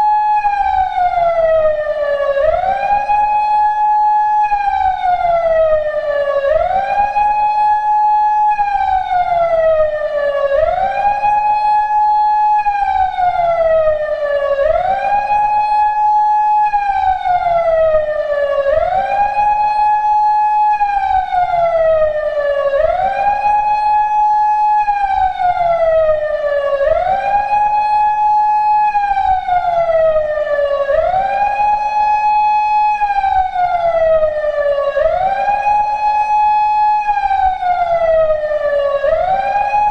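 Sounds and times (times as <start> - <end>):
electronic siren wailing: 0.0 - 39.9.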